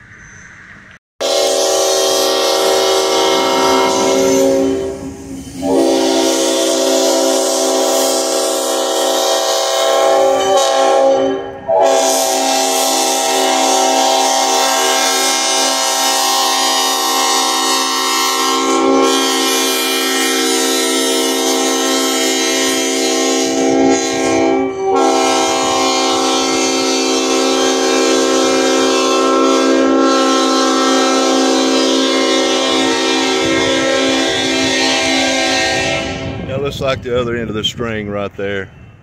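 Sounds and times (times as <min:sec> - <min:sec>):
locomotive air horn blasts: 0:01.2 - 0:36.5.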